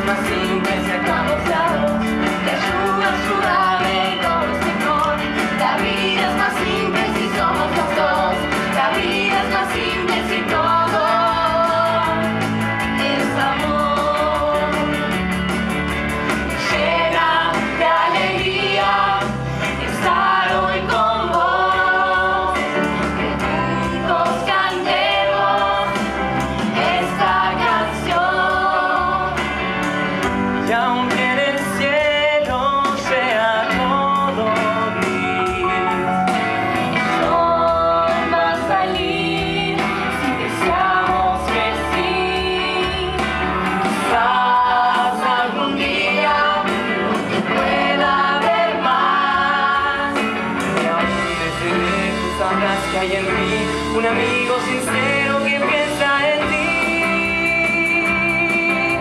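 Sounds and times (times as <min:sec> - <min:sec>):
group singing: 0:00.0 - 0:59.0
rock band with electric guitars: 0:00.0 - 0:59.0.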